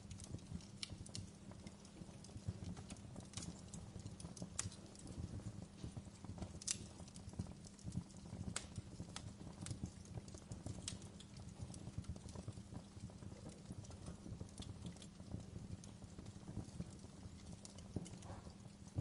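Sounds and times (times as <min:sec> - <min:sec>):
logs crackling and popping: 0:00.0 - 0:19.0
low rumble of flames: 0:00.0 - 0:19.0.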